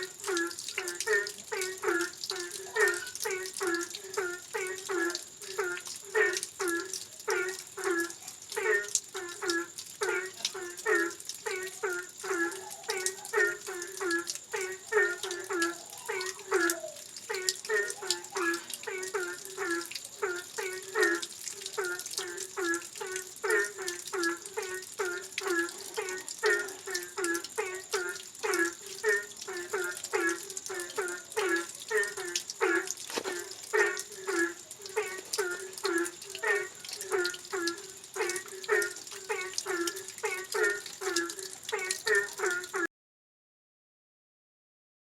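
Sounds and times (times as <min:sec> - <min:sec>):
animal calling: 0:00.0 - 0:42.9
frogs croaking: 0:00.0 - 0:42.9
rain hissing: 0:00.0 - 0:42.9.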